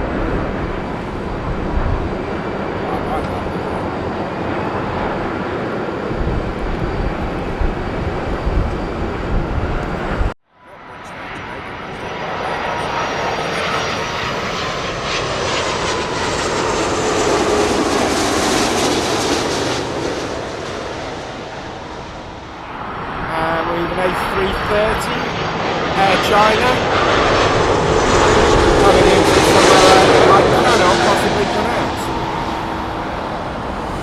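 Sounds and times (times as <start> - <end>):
gliding jet whine: 0.0 - 34.0
jet engine roar: 0.0 - 34.0.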